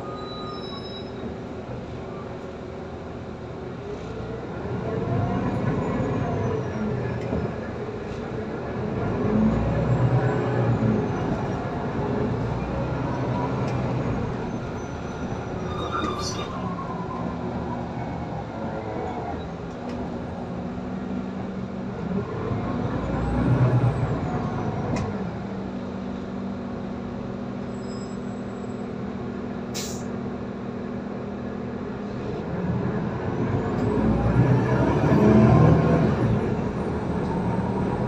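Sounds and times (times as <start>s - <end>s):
bus engine and drivetrain hum: 0.0s - 38.0s.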